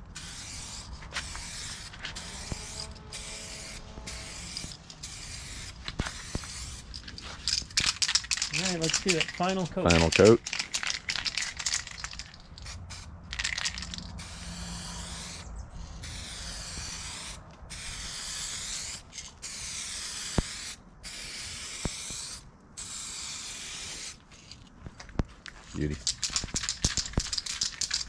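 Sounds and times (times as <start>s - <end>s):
aerosol spray can hissing: 0.2s - 15.4s, 16.0s - 24.2s.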